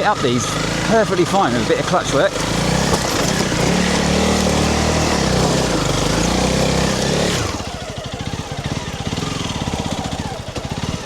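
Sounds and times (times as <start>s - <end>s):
motorcycle engine pulling under load: 0.0s - 11.0s.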